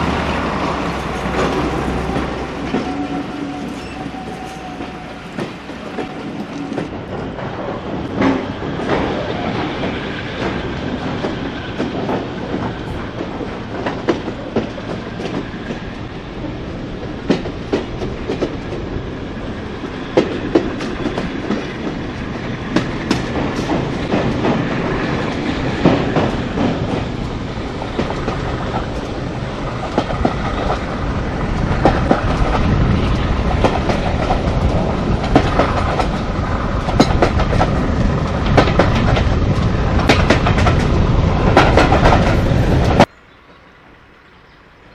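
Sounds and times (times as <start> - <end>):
wheels clicking over rail joints: 0.0 - 43.1
train rumbling: 0.0 - 44.9.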